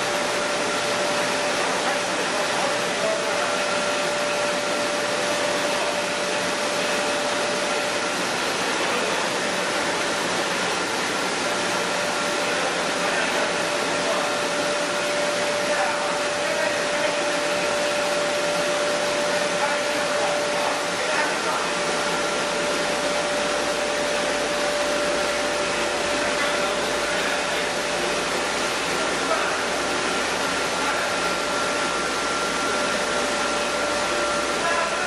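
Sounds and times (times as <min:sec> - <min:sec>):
milling machine running: 0:00.0 - 0:35.0.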